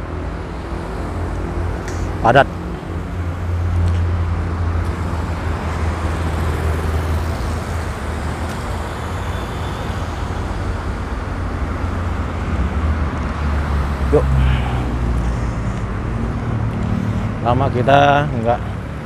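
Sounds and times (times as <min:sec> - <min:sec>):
car engines running: 0:00.0 - 0:19.0
cars driving past: 0:00.0 - 0:19.0.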